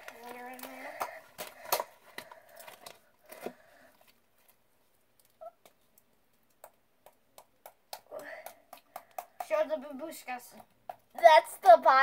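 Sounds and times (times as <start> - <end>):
slime squishing: 0.0 - 11.4.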